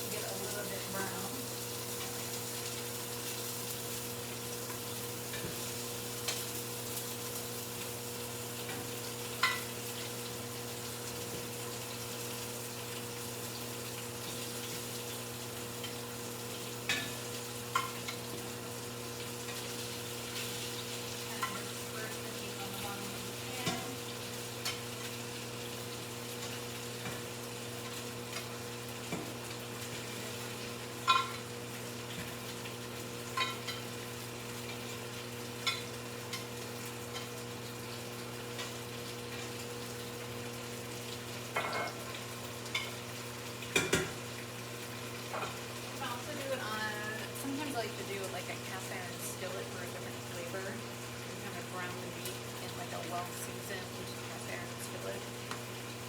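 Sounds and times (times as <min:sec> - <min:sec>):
beef sizzling in hot oil: 0:00.0 - 0:56.0.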